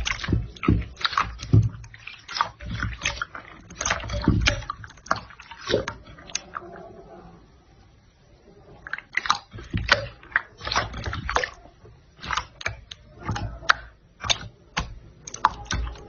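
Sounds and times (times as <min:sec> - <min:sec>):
slime squelching: 0:00.0 - 0:16.0.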